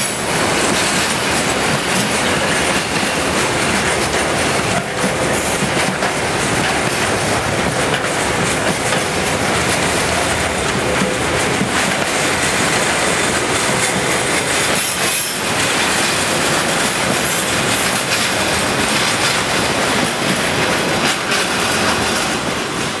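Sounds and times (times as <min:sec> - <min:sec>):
freight train rumbling past: 0:00.0 - 0:23.0
wheels clattering over rail joints: 0:00.0 - 0:23.0.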